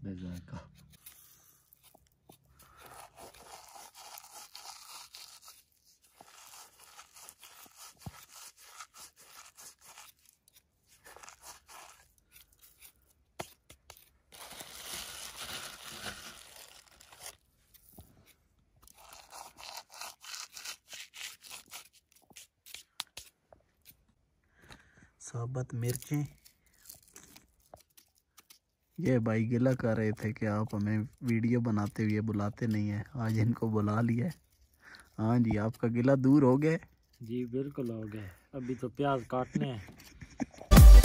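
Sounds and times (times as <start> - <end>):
seeds crushed between palms: 0.2 - 24.2, 24.8 - 38.7.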